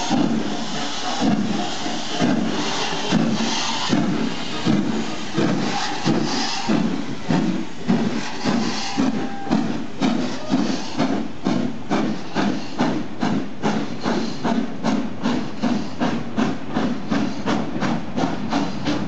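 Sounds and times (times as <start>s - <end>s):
steam hissing from drain cocks: 0.0s - 19.0s
steam locomotive exhaust beats: 0.0s - 19.0s.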